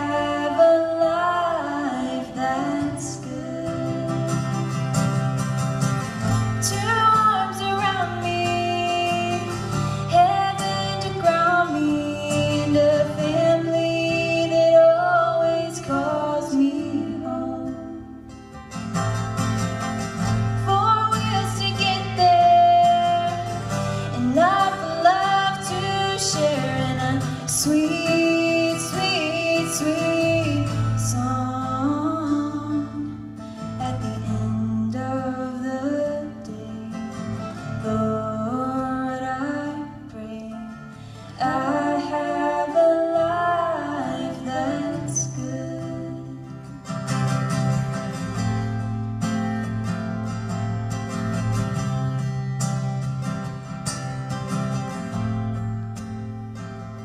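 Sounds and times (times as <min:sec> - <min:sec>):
strummed acoustic guitar: 0:00.0 - 0:57.0
women singing country song: 0:00.0 - 0:57.0.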